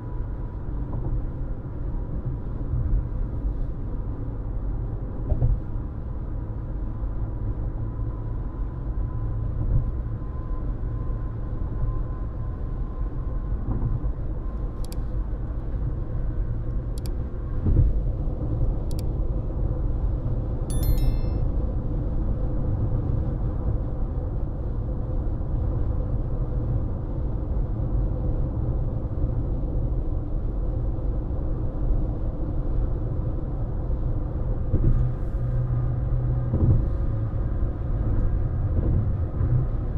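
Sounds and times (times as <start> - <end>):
road and tyre noise in car: 0.0 - 39.9.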